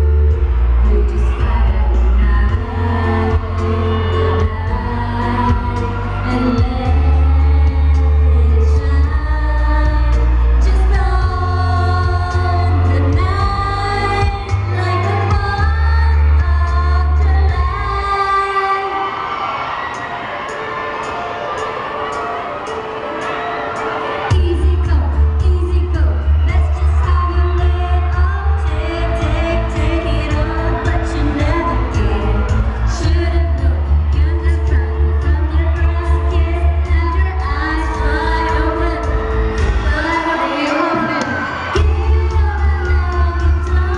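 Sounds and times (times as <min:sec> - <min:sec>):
amplified pop music with heavy bass: 0:00.0 - 0:19.2, 0:19.9 - 0:43.9
woman singing into a microphone: 0:00.0 - 0:19.2, 0:24.3 - 0:43.9.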